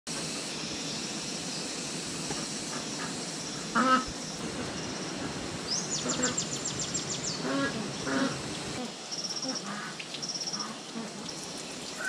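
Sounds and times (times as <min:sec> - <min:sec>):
steady high hiss: 0:00.1 - 0:12.0.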